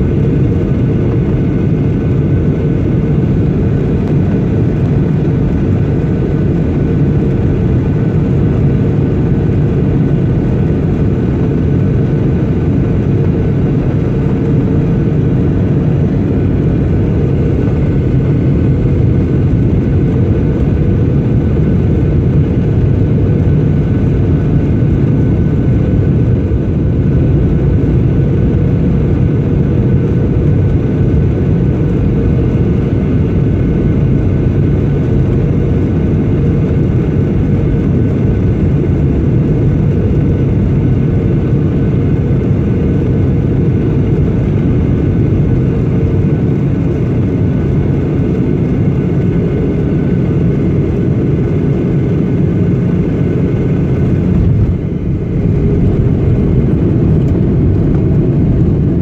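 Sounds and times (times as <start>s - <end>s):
faint steady whine: 0.0s - 59.0s
jet engine and airflow rush: 0.0s - 59.0s.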